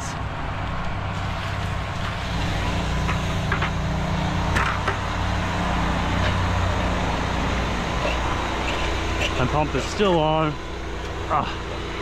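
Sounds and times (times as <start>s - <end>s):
pump motor humming: 0.2s - 12.0s.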